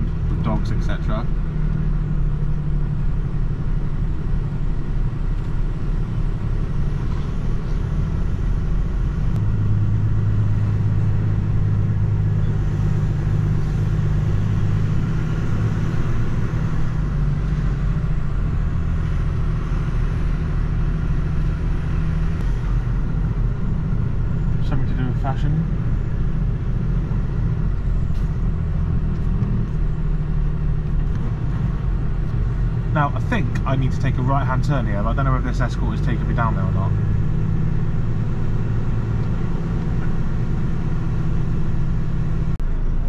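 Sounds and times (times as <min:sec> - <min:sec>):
diesel engine rumble: 0:00.0 - 0:43.0.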